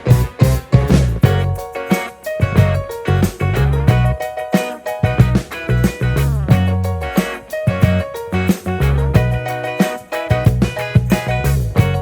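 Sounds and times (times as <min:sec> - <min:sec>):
background music with beat and guitar: 0:00.0 - 0:12.0.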